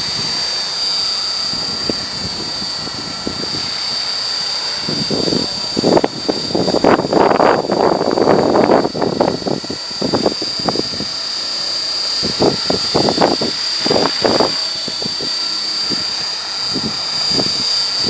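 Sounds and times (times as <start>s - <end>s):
model helicopter rotor whine: 0.0s - 18.0s
wind buffeting microphone: 1.3s - 18.0s.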